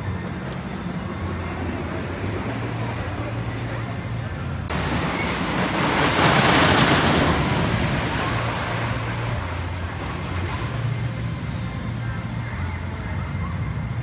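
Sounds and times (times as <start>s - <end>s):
roller coaster train rumbling: 0.0s - 14.0s.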